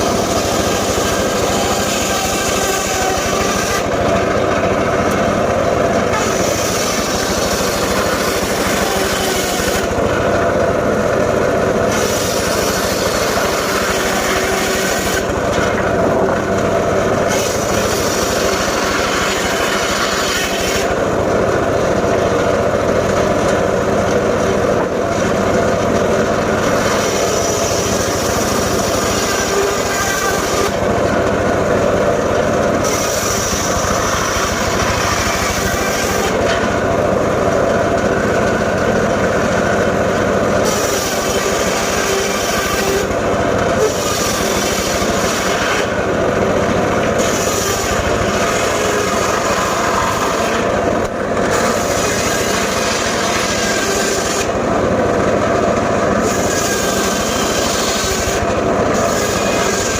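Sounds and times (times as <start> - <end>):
saw blade cutting wood: 0.0 - 54.9, 55.5 - 59.9
saw engine drone: 0.0 - 59.9.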